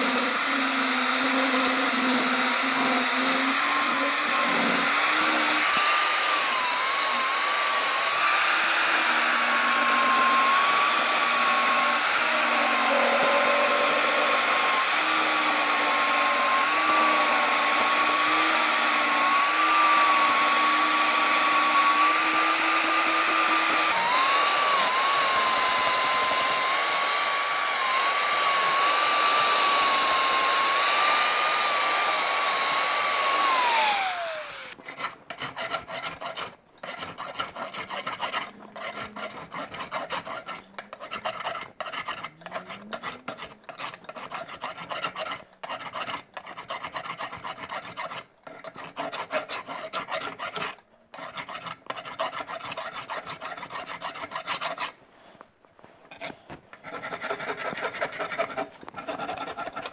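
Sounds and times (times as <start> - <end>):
file rasping over metal: 0.0 - 55.0, 56.1 - 59.9
hand grinder grinding metal: 0.0 - 55.0, 56.1 - 59.9.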